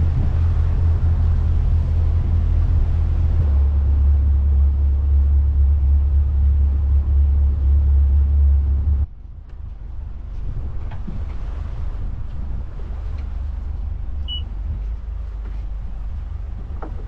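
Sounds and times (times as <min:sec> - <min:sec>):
motor boat engines droning: 0:00.0 - 0:17.0
water: 0:00.0 - 0:17.0
wind: 0:00.0 - 0:17.0.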